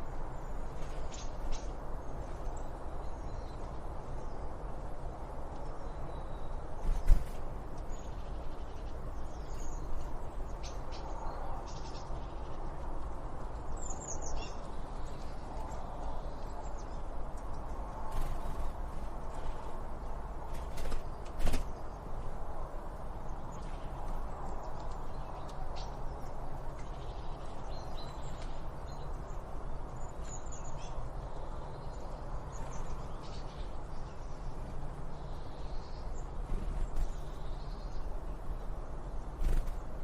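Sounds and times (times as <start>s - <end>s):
small birds chirping: 0.0s - 4.7s, 5.5s - 40.0s
outdoor background hiss: 0.0s - 40.0s.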